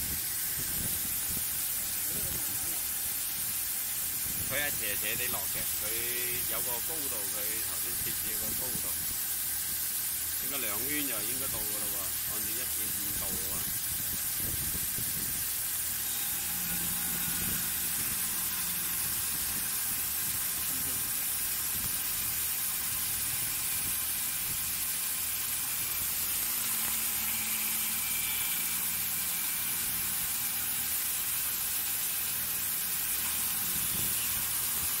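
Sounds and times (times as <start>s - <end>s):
coolant mist hissing: 0.0s - 35.0s
low machine hum: 0.0s - 35.0s
milling machine cutting metal: 0.0s - 35.0s.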